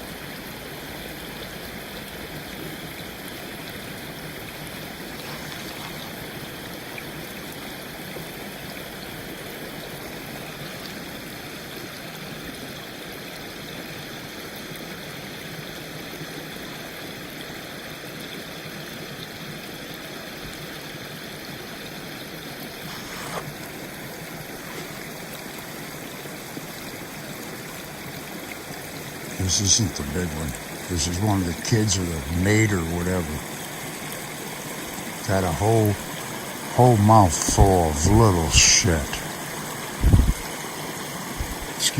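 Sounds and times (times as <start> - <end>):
water rushing through dam: 0.0 - 17.9, 18.6 - 41.9.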